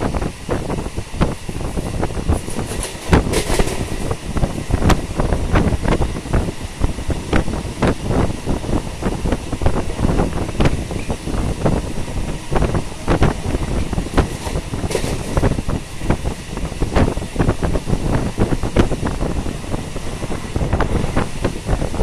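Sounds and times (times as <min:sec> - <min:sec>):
electric train rumbling: 0:00.0 - 0:22.0
train clacks and rattles: 0:00.0 - 0:22.0
wind on microphone: 0:00.0 - 0:22.0.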